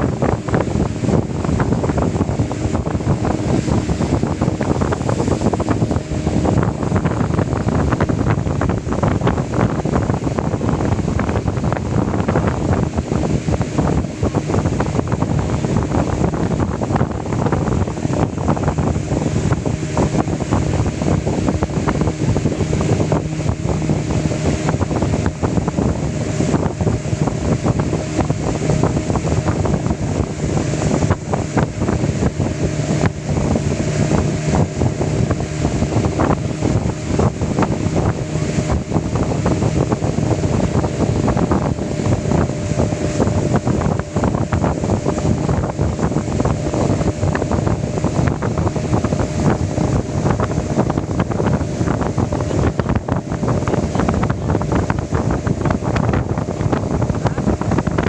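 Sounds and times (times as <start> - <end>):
motor humming: 0.0 - 58.0
wind noise on microphone: 0.0 - 58.0.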